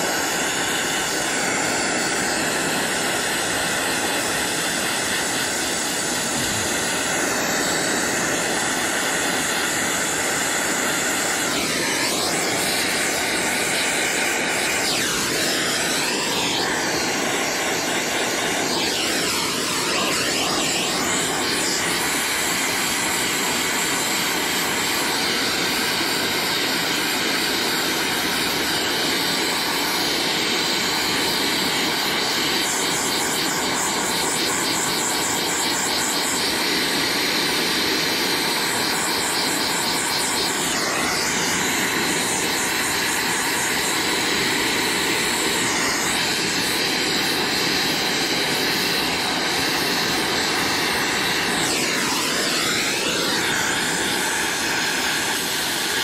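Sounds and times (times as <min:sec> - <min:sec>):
torch flame hissing: 0:00.0 - 0:56.0.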